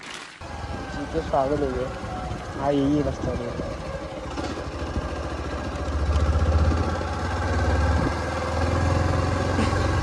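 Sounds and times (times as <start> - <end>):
small motorcycle engine running: 0.4 - 10.0.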